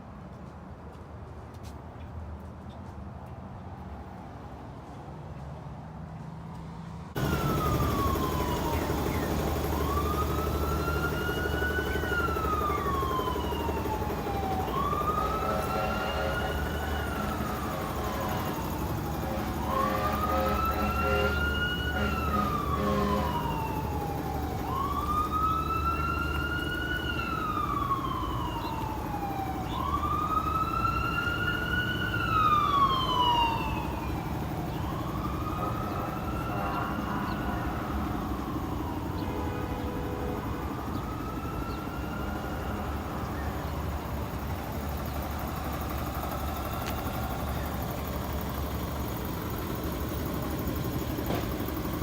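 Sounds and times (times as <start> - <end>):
siren wailing: 7.2 - 51.1.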